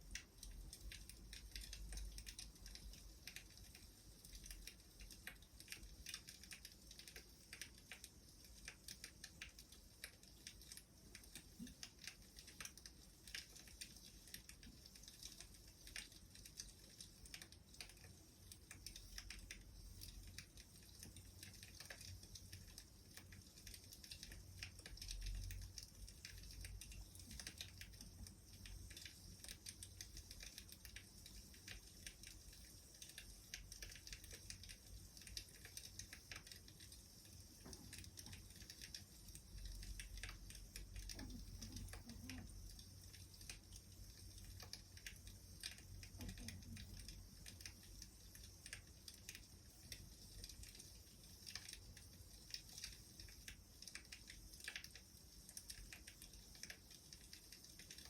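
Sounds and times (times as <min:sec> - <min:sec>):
soft hiss: 0:00.0 - 0:58.0
wood fire crackling: 0:00.0 - 0:58.0.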